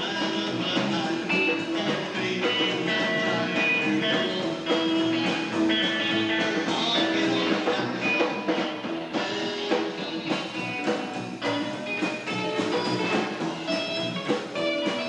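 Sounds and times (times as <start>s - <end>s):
drum beat: 0.0s - 15.0s
guitar: 0.0s - 15.0s.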